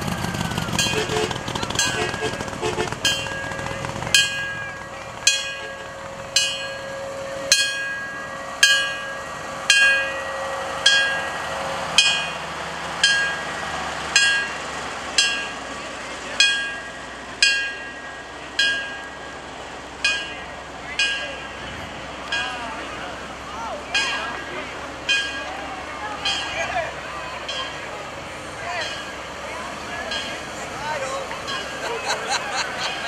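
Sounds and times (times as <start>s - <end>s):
fire engine bell ringing: 0.0s - 33.0s.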